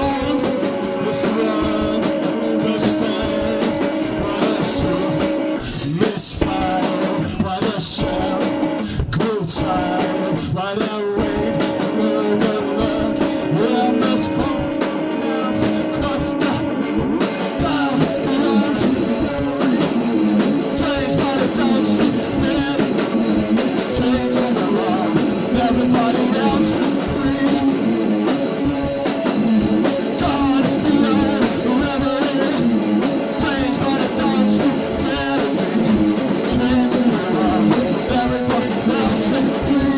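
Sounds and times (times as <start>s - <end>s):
drum kit with cymbals: 0.0s - 39.9s
electric guitar: 0.0s - 39.9s
out of tune blues-rock band: 0.0s - 39.9s.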